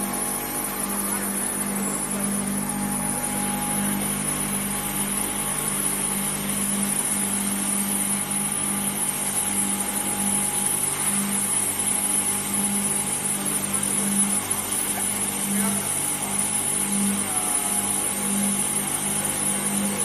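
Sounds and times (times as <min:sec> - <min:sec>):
high steady whine: 0:00.0 - 0:20.0
low machinery hum: 0:00.0 - 0:20.0.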